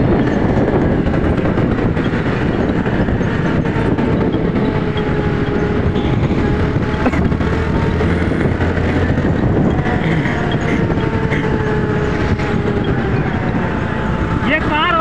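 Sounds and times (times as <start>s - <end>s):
scooter engine running: 0.0s - 15.0s
wind and road noise: 0.0s - 15.0s.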